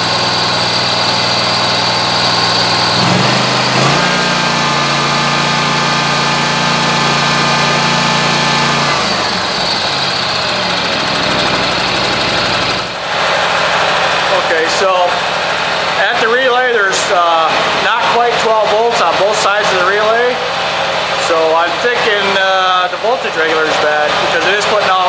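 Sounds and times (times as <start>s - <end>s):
mower engine idling and revving: 0.0s - 25.0s.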